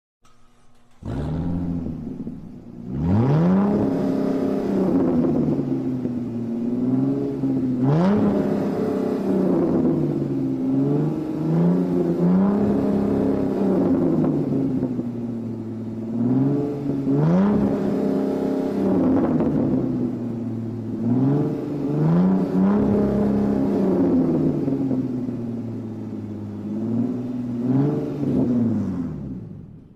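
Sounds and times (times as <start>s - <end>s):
car engine revving: 0.2s - 29.9s.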